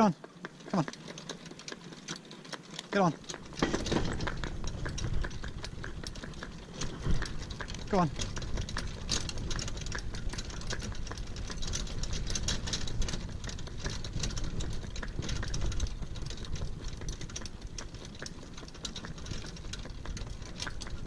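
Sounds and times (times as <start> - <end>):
cart rattling on a road: 0.0 - 21.0
hoofbeats on a road: 0.0 - 21.0.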